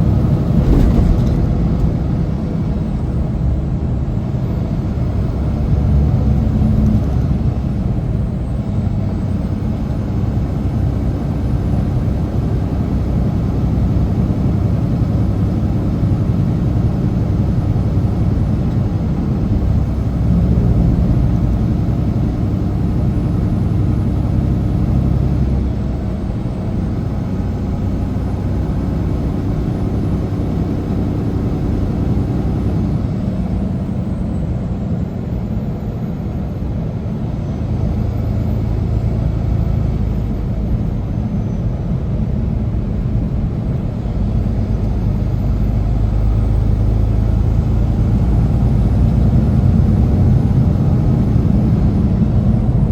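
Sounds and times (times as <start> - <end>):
road noise: 0.0 - 52.9
truck diesel engine rumble: 0.0 - 52.9.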